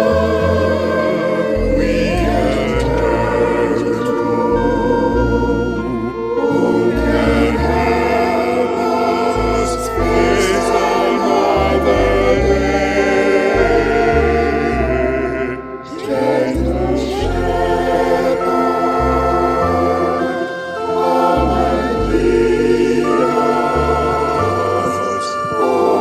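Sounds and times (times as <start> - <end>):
organ bass notes: 0.0 - 26.0
women's choir singing a hymn: 0.0 - 26.0.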